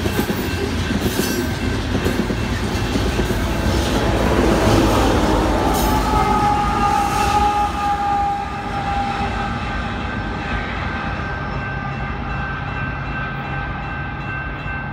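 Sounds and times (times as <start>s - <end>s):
locomotives rumbling past: 0.0s - 14.9s.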